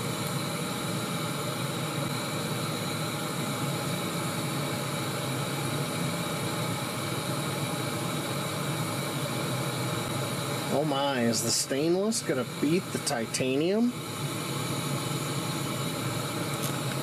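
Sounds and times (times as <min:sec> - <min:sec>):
stove burner hissing: 0:00.0 - 0:17.0.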